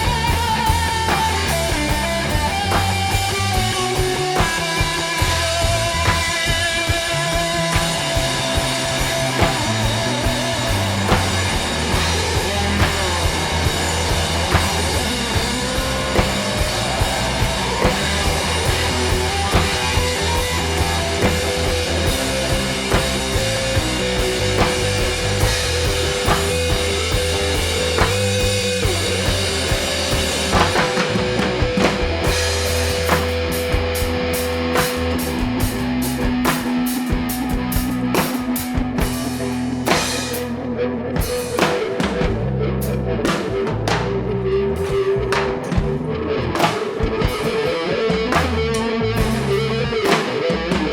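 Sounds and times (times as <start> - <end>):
drums steady beat: 0.0 - 50.9
rock band playing live: 0.0 - 50.9.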